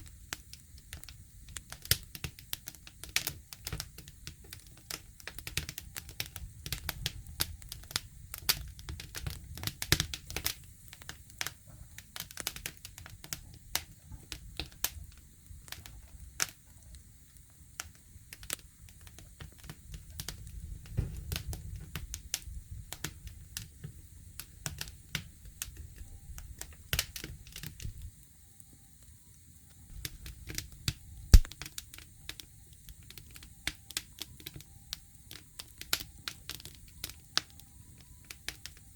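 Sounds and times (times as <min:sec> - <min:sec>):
campfire crackling: 0:00.0 - 0:38.9
low rumble of flame: 0:00.0 - 0:38.9.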